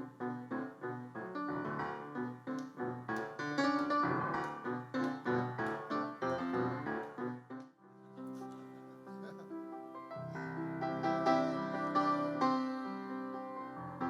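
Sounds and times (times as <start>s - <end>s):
piano playing chords: 0.0s - 14.0s.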